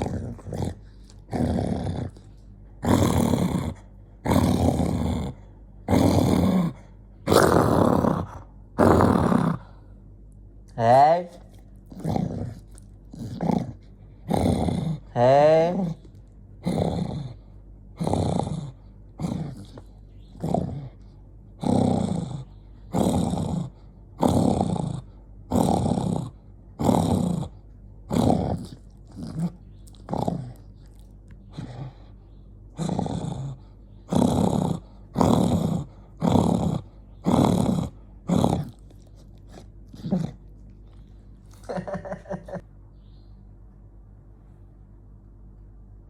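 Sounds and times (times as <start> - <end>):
dog growling: 0.0 - 10.0, 10.7 - 42.6.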